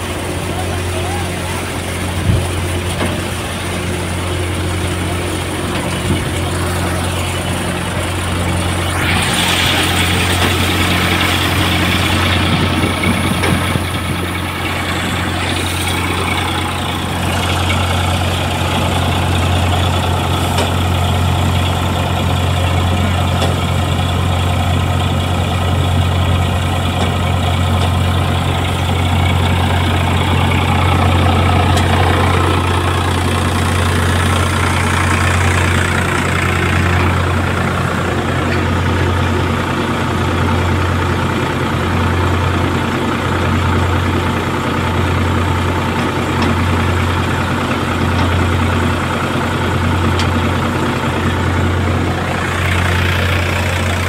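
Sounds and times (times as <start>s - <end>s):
diesel tractor engine running: 0.0s - 54.0s
thresher running noise: 0.0s - 54.0s.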